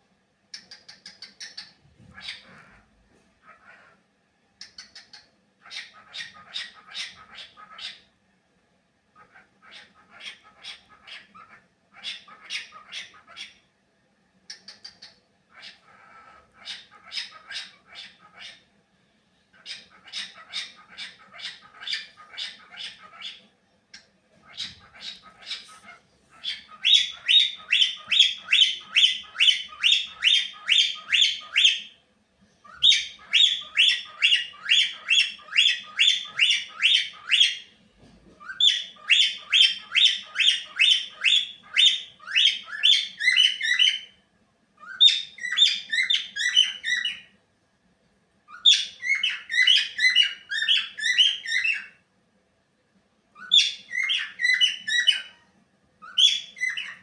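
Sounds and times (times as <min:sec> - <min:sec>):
cockatiel chirping: 0:00.5 - 0:02.8, 0:04.6 - 0:08.0, 0:09.2 - 0:13.6, 0:14.5 - 0:18.6, 0:19.6 - 0:32.0, 0:32.6 - 0:37.7, 0:38.4 - 0:44.2, 0:44.8 - 0:47.4, 0:48.5 - 0:52.0, 0:53.4 - 0:55.4, 0:56.0 - 0:57.0.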